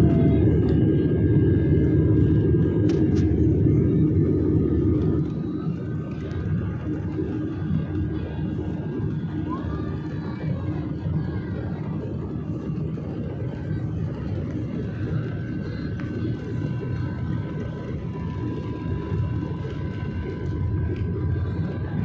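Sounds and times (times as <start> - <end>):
jet engines rumbling in cabin: 0.0 - 22.0.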